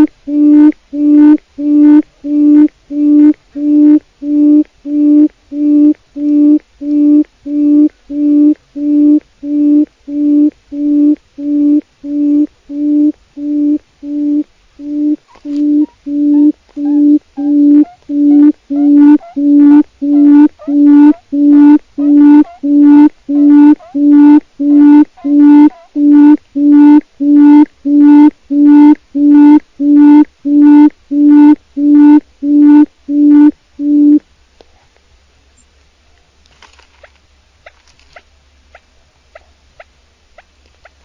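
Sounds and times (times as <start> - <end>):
quail calling: 0.0 - 34.2.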